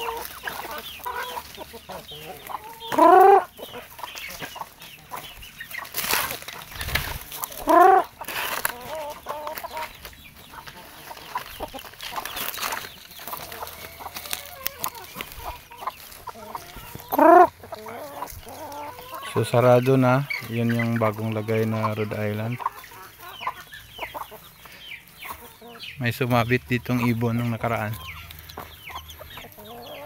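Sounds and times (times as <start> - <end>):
chicken rising calls: 0.0 - 5.2, 7.1 - 26.0
chickens clucking: 0.0 - 30.0.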